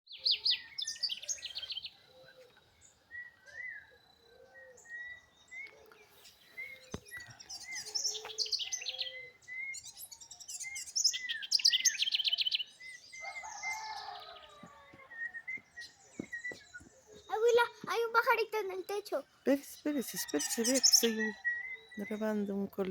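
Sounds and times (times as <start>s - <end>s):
high chirping bird trills: 0.1s - 5.7s, 6.3s - 22.9s.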